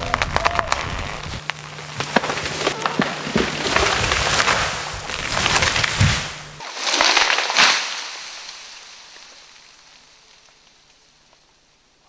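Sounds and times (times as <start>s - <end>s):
branches snapping and crashing: 0.0s - 11.5s
wood cracking and splintering: 0.0s - 11.5s
low steady hum: 0.0s - 12.0s.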